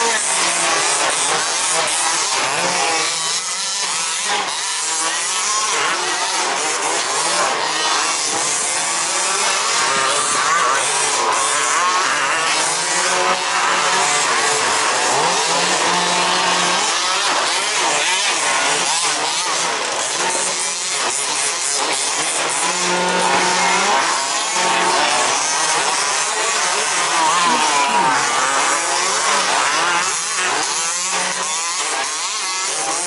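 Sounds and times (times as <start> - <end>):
rc car engines buzzing: 0.0 - 33.0.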